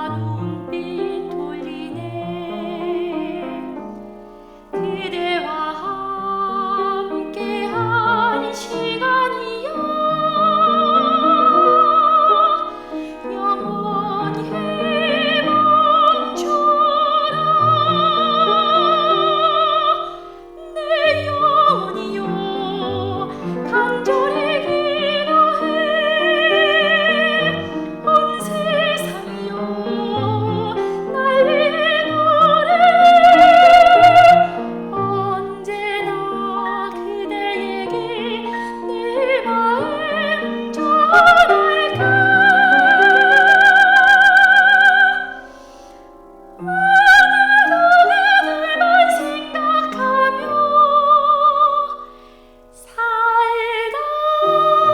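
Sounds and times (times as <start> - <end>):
operatic singing: 4.7 - 45.6, 46.6 - 52.2, 52.8 - 54.9.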